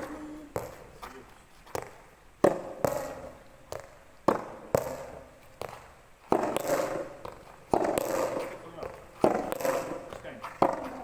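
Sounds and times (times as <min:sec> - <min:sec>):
tennis ball struck by rackets: 0:00.0 - 0:11.0.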